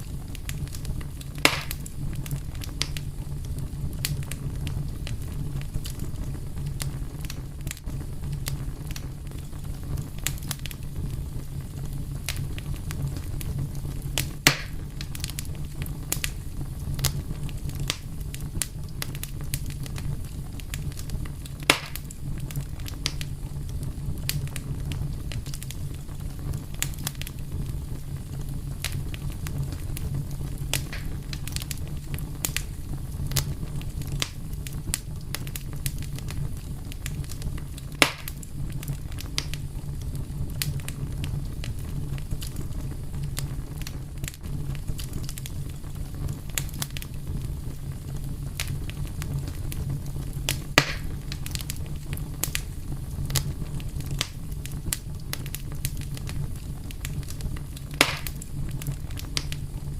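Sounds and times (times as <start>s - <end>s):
low rumble of burning: 0.0s - 59.9s
sharp fire pops: 0.0s - 59.9s
wood fire crackling: 0.0s - 59.9s.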